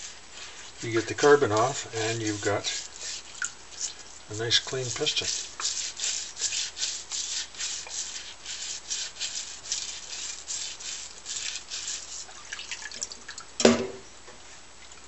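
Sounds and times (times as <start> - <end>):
scouring pad scrubbing metal: 0.0 - 12.8.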